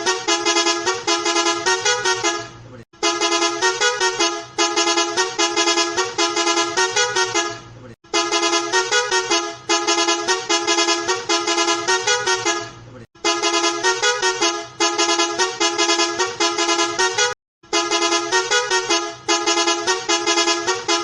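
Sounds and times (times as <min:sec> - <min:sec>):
musical horn tune: 0:00.0 - 0:21.0.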